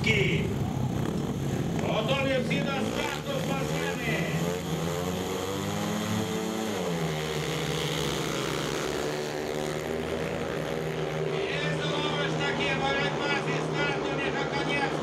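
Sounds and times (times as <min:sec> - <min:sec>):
motorcycles revving and racing: 0:00.0 - 0:15.0.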